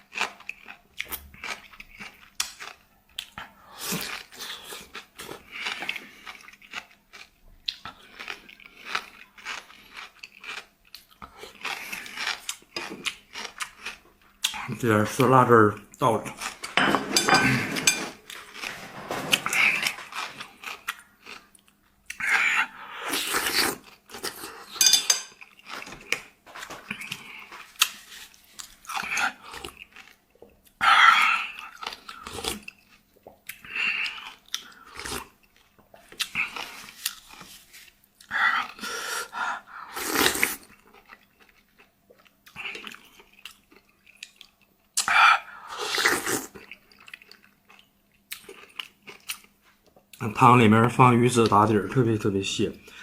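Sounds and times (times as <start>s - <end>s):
person chewing and biting noisily: 0.0s - 14.7s, 18.2s - 50.2s.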